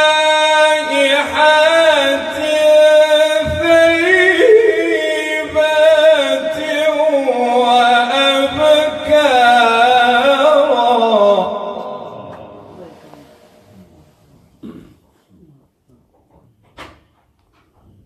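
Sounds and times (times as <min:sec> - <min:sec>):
man chanting melodically: 0:00.0 - 0:14.5.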